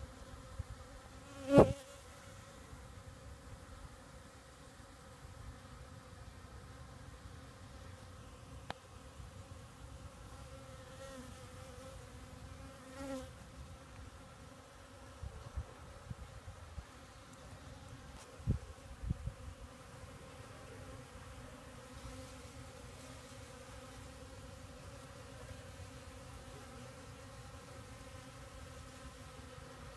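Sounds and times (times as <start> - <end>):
honeybees buzzing: 0.0 - 3.1, 6.8 - 29.9.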